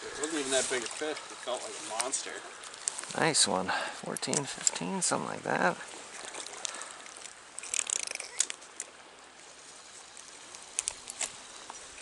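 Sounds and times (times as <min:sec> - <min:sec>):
running river water: 0:00.0 - 0:12.0.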